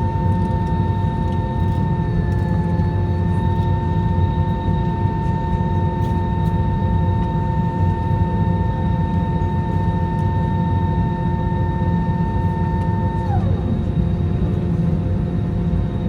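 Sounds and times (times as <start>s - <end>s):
jet engine rumble and whine: 0.0s - 16.0s.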